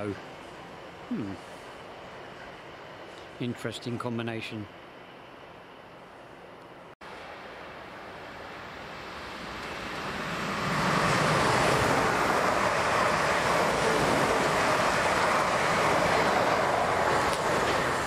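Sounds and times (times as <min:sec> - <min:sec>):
electric train passing at speed: 0:00.0 - 0:18.0.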